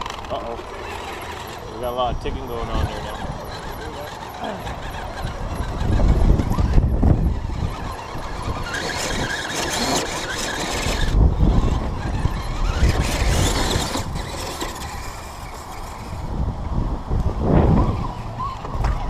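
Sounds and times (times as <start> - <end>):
scraping on rocks: 0.0 - 16.4
electric motor whining: 0.0 - 19.0.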